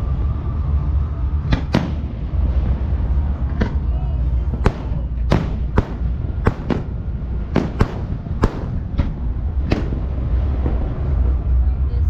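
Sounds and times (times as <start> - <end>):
low rumble: 0.0 - 12.0
fireworks bangs: 1.5 - 11.4.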